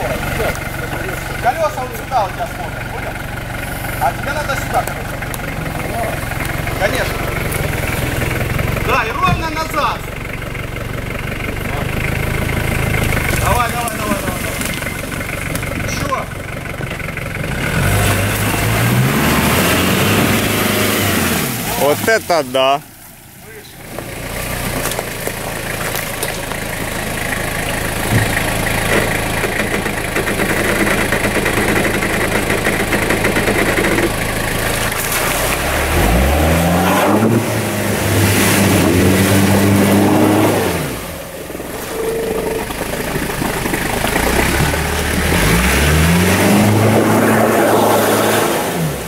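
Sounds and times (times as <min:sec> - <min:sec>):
suv engine revving under load: 0:00.0 - 0:49.0.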